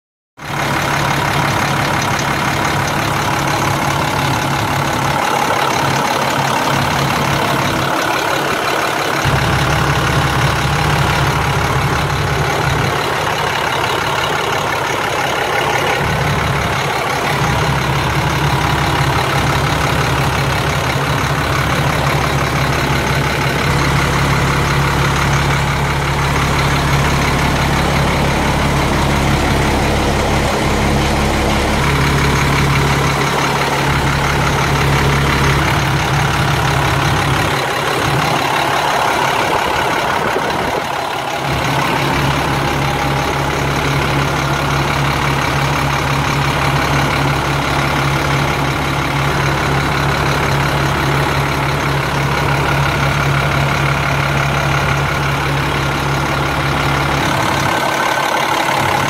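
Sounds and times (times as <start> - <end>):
diesel engine idling: 0.4 - 59.0.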